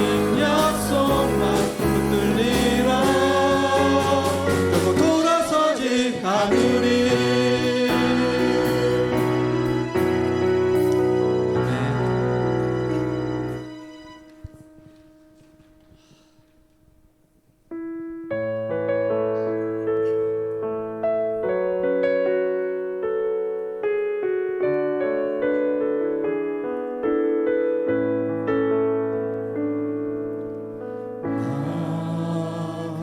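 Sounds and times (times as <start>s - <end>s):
piano playing slow chords: 0.0s - 16.2s, 17.7s - 33.0s
worship music: 0.0s - 16.8s, 18.4s - 33.0s.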